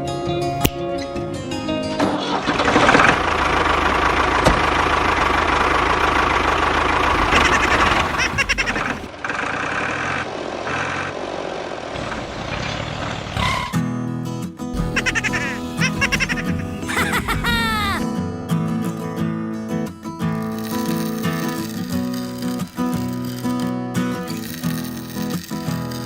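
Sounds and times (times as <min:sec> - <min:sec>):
tractor engine rattling: 0:02.1 - 0:13.4, 0:14.7 - 0:26.0.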